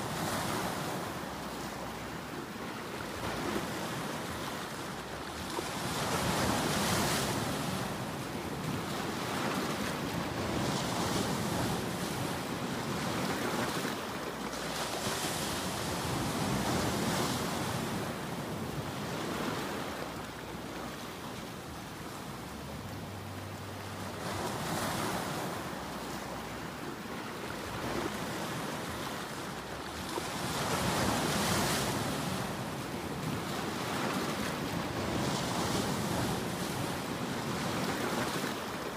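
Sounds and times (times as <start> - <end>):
waves breaking: 0.0 - 38.9.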